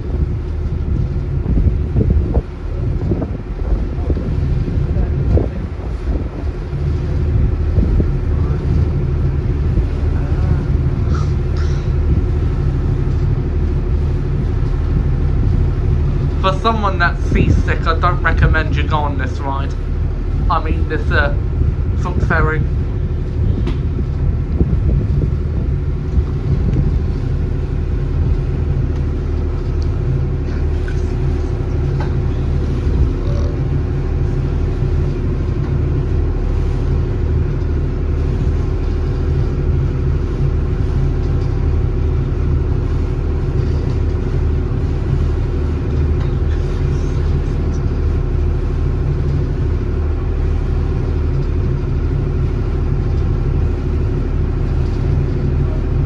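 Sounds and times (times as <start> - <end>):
ferry engine droning: 0.0 - 56.0.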